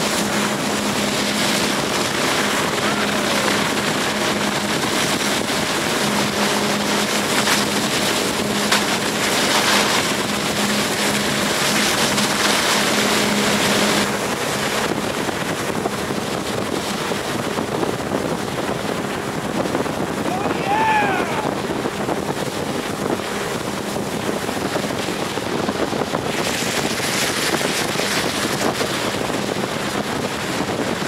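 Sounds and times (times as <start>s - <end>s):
boat engine running: 0.0s - 31.0s
wind buffeting microphone: 0.0s - 31.0s.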